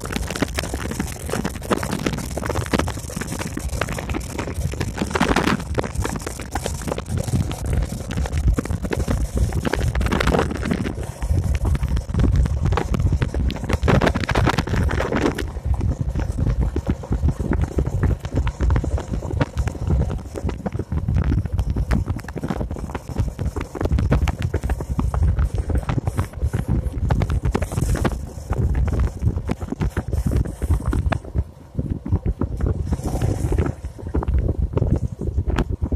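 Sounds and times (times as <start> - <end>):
motorcycle engine running: 0.0 - 31.5
wind buffeting microphone: 0.0 - 35.9.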